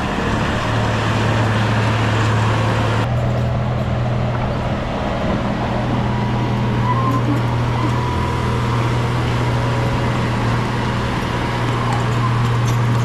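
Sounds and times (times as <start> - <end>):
bulldozer diesel engine: 0.0 - 13.0.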